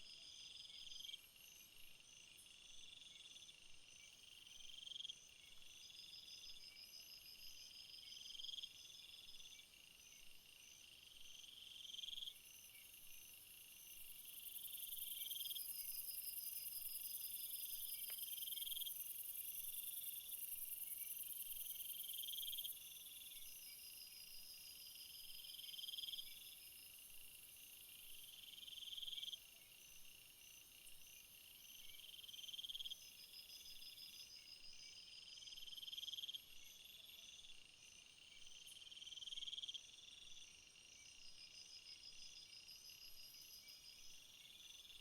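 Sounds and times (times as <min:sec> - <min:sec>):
insect trill: 0:00.1 - 0:45.0.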